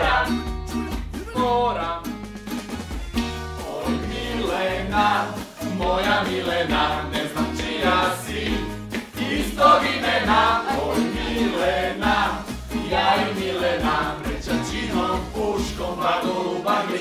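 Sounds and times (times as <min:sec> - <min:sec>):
group singing in chorus: 0:00.0 - 0:00.6, 0:03.6 - 0:17.0
strummed acoustic guitar: 0:00.0 - 0:17.0.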